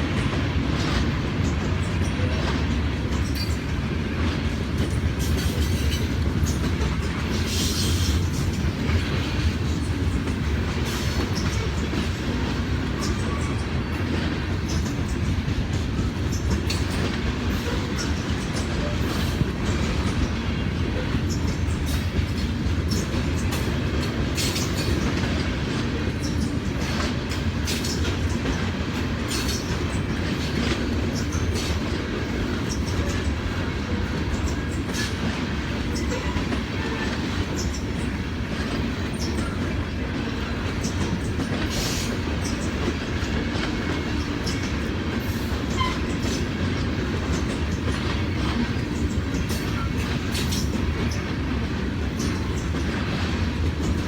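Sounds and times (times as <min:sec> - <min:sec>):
freight train rumbling past: 0:00.0 - 0:54.0
wheels clicking over rail joints: 0:00.1 - 0:54.0.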